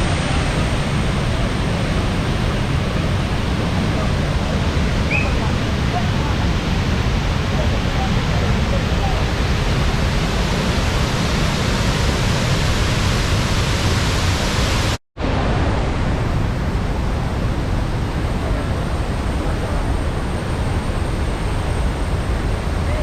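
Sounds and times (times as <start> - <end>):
waterfall rushing water: 0.0 - 23.0.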